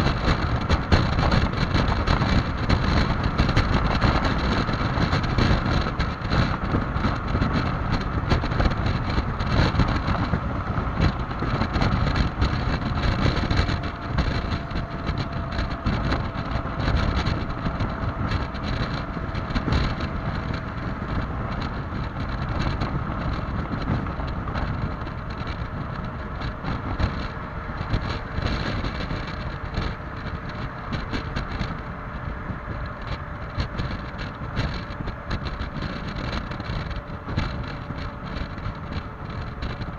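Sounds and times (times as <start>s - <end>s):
faint scooter whine: 0.0s - 39.9s
wind buffeting microphone: 0.0s - 39.9s.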